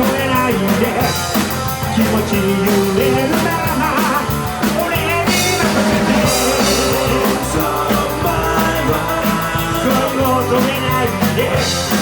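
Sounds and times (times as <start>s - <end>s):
drum kit with cymbal beat: 0.0s - 12.0s
electric guitar: 0.0s - 12.0s.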